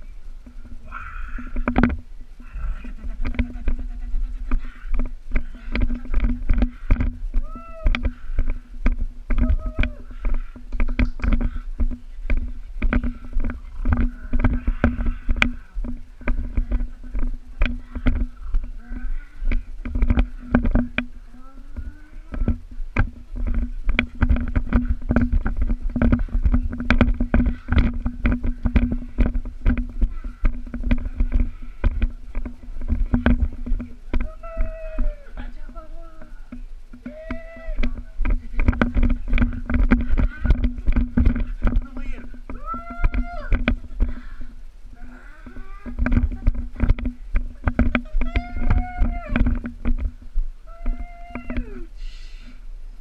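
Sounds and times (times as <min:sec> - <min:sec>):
sharp clicks and knocks: 0:03.1 - 0:18.7, 0:19.4 - 0:35.0, 0:36.5 - 0:44.5, 0:45.4 - 0:51.8.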